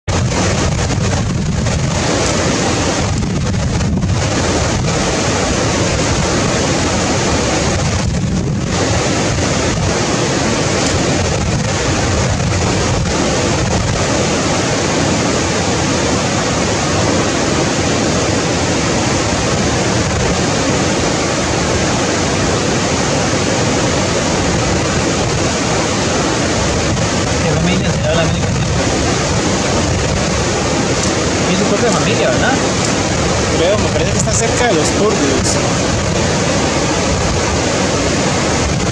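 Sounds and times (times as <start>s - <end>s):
stream rushing over boulders: 0.1s - 38.9s.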